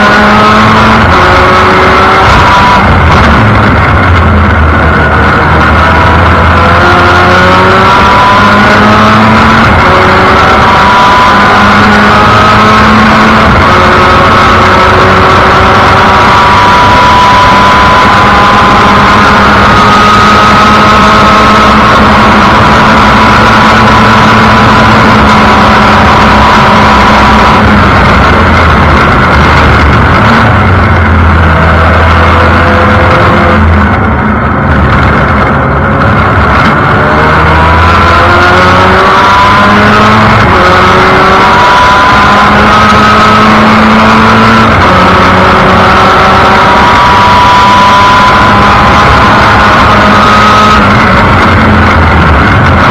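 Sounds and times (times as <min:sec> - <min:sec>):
race car engine pulling hard: 0:00.0 - 0:52.9
wind and road noise: 0:00.0 - 0:52.9.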